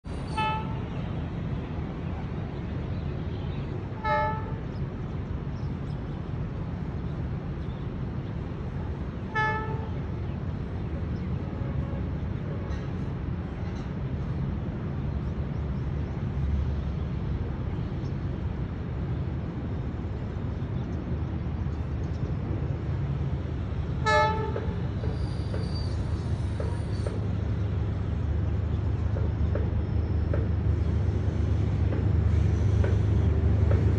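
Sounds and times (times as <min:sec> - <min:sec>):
diesel locomotive rumble: 0:00.0 - 0:33.9.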